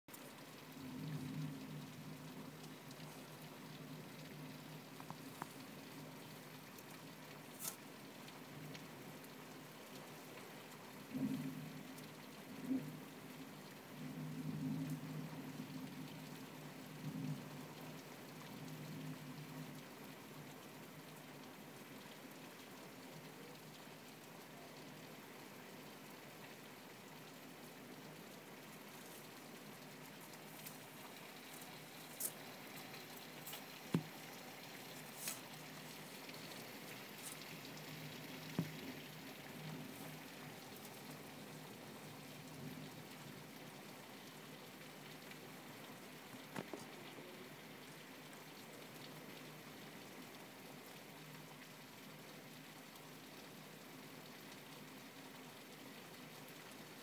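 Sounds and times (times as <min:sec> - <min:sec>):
steady rain falling: 0:00.1 - 0:57.0.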